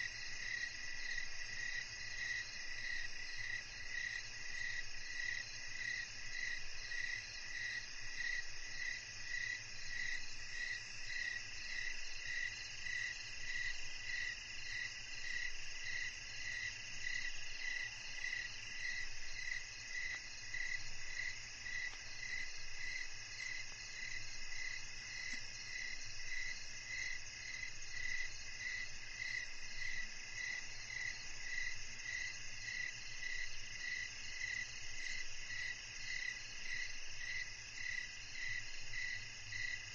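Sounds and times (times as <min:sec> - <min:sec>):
cricket pulsing chirp: 0:00.0 - 0:39.9
steady high insect trill: 0:00.0 - 0:39.9.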